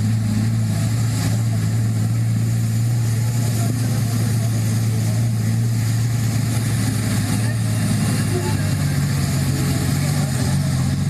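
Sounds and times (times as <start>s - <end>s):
passing road traffic: 0.0s - 11.0s
vehicle engine humming: 0.0s - 11.0s.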